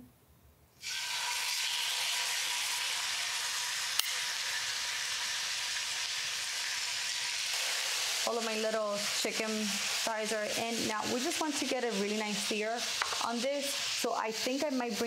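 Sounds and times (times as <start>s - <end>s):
chicken sizzling in oil: 0.8s - 15.0s.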